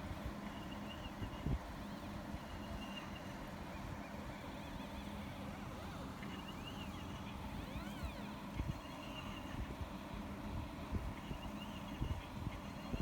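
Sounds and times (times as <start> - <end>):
steady low hum: 0.0 - 13.0
stepper motors whining: 0.0 - 13.0.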